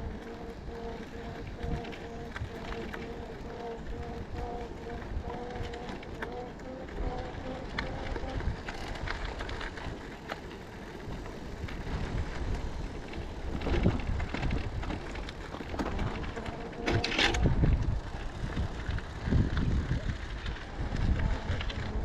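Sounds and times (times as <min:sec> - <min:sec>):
tyres rumbling on trail: 0:00.0 - 0:22.0
wind buffeting microphone: 0:00.0 - 0:22.0.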